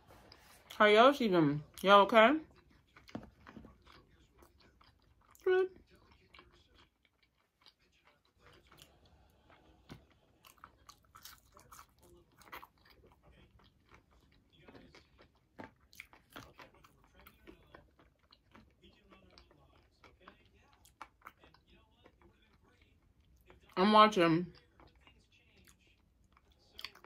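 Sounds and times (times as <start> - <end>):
chewing fries: 1.5 - 23.8, 24.4 - 27.0.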